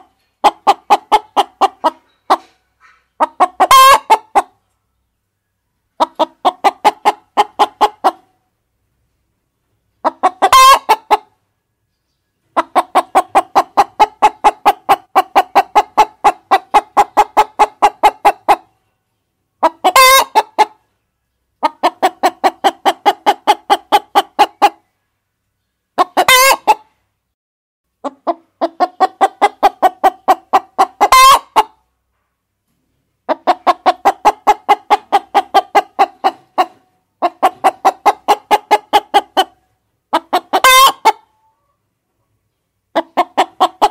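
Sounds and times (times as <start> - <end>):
hens clucking: 0.0 - 4.8, 5.9 - 8.4, 9.8 - 11.4, 12.4 - 18.8, 19.6 - 20.9, 21.5 - 24.9, 25.9 - 27.0, 28.0 - 31.9, 33.2 - 43.9.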